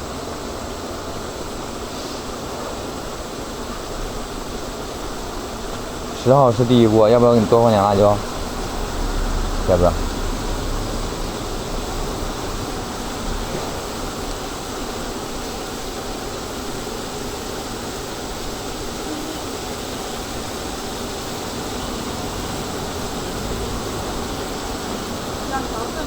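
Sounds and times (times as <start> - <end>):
exhaust fan rushing: 0.0 - 26.0.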